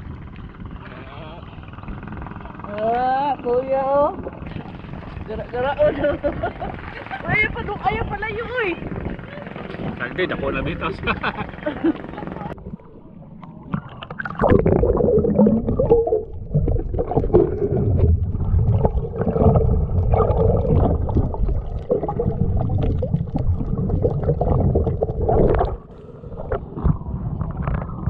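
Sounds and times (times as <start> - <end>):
steady hum: 0.0 - 28.0
underwater rumbling and gurgling: 0.0 - 28.0.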